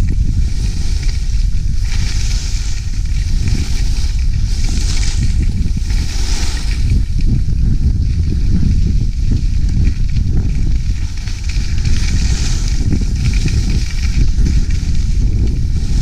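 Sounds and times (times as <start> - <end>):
skis hissing over packed snow: 0.0 - 16.0
wind buffeting microphone: 0.0 - 16.0.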